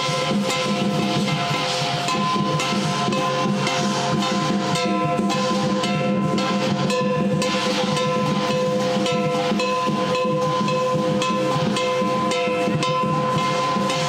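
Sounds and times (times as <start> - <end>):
crashing cymbals: 0.0 - 14.0
large drum beating: 0.0 - 14.0
ringing gong: 0.0 - 14.0.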